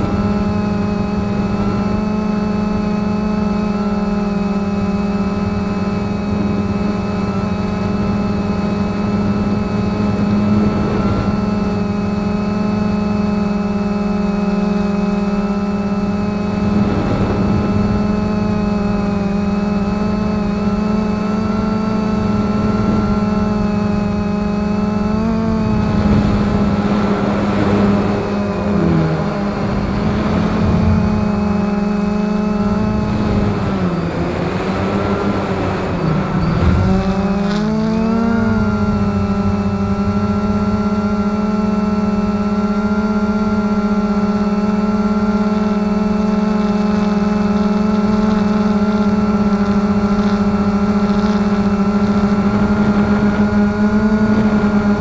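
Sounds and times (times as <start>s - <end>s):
drone propellers droning: 0.0s - 55.0s.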